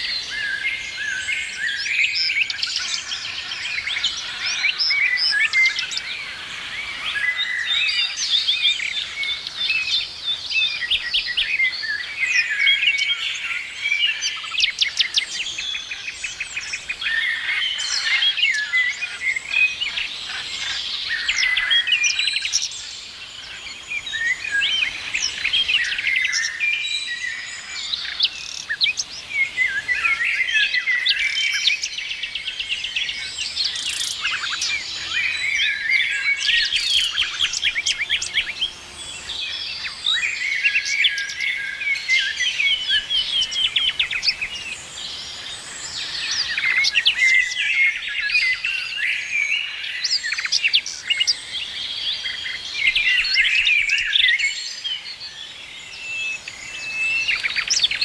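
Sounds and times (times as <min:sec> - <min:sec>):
songbirds singing and chirping: 0:00.0 - 0:58.0.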